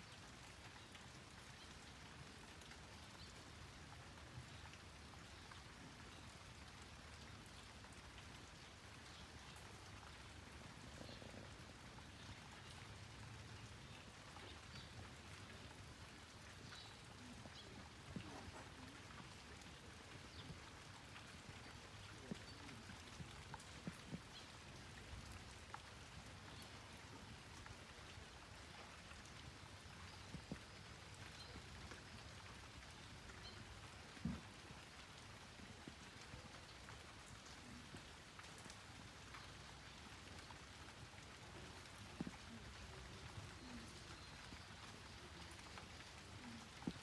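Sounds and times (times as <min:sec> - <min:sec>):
faint light rain patter: 0:00.0 - 0:47.0.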